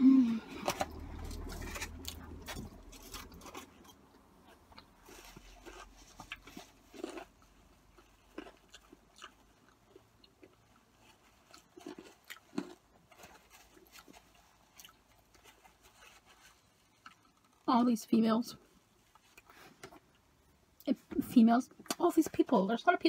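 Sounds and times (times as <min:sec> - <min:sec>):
faint chewing: 0:00.6 - 0:17.7, 0:18.9 - 0:20.9.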